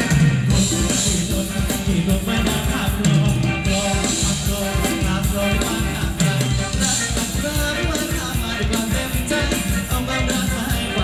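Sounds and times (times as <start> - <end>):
live band dance music: 0.0 - 11.0
steady drum beat: 0.0 - 11.0.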